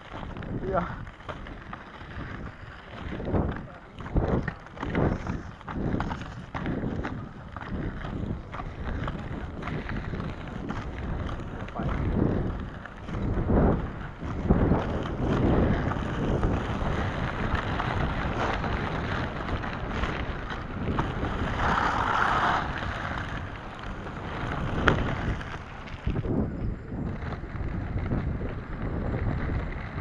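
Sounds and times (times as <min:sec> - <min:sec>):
skate wheels rolling on dirt road: 0:00.0 - 0:30.0
wind buffeting microphone: 0:00.0 - 0:30.0.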